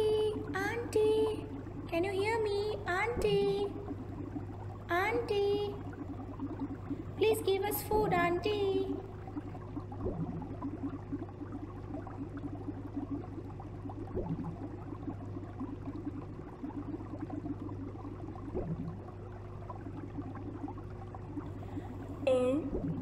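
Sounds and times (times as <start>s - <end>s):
aquarium pump humming: 0.0s - 23.0s
water bubbling and trickling: 0.0s - 23.0s.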